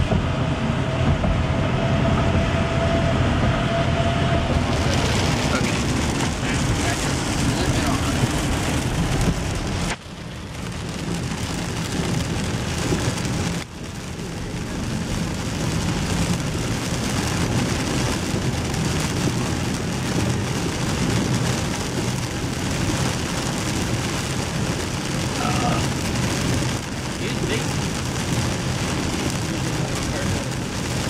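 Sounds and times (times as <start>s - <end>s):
heavy rain on car roof: 0.0s - 31.0s
moving car rumble: 0.0s - 31.0s.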